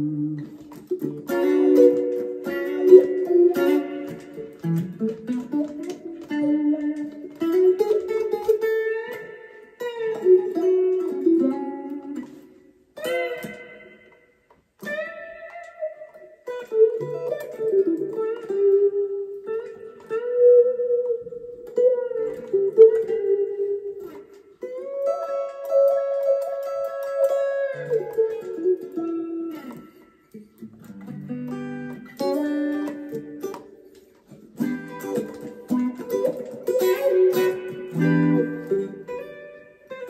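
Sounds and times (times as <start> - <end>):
electric guitar melody with wah: 0.0 - 40.0.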